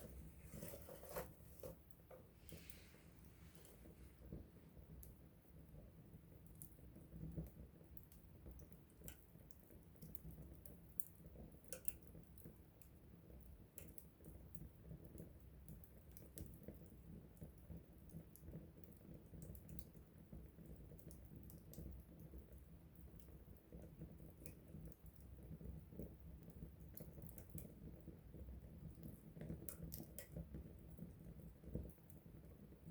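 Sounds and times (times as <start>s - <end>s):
low rumble of flames: 0.0s - 32.9s
wood fire crackling: 0.0s - 32.9s.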